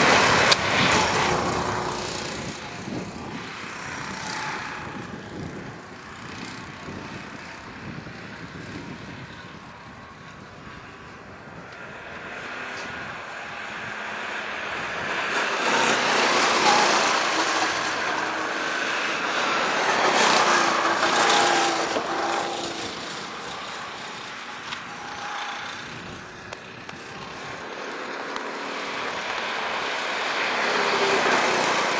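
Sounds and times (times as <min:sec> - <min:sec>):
go-kart engines passing: 0:00.0 - 0:31.9.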